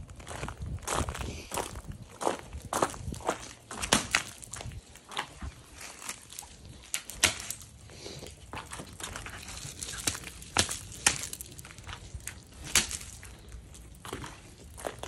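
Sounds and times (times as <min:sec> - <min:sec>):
footsteps crunching in snow: 0:00.1 - 0:15.0.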